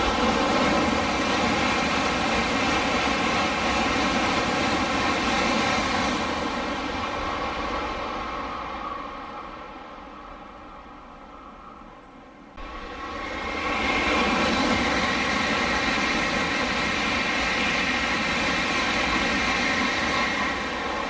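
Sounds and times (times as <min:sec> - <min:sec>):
high-speed train rushing past: 0:00.0 - 0:21.0.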